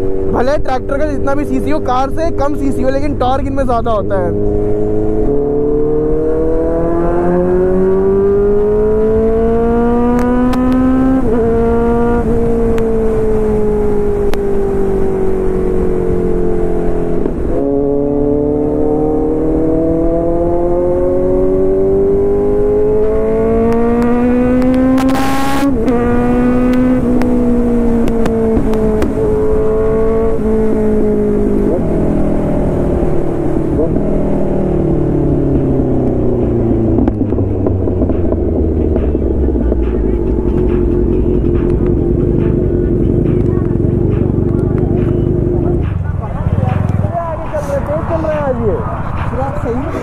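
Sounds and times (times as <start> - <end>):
motorcycle engine at speed: 0.0 - 50.0.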